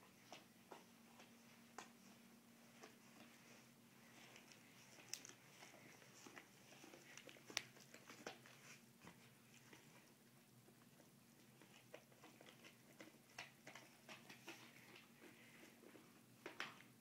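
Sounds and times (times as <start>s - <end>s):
dogs gnawing chew bone: 0.0s - 17.0s.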